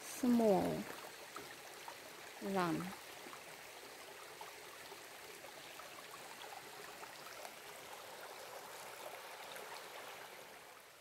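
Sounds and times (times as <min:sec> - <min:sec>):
creek babbling over stones: 0:00.0 - 0:11.0.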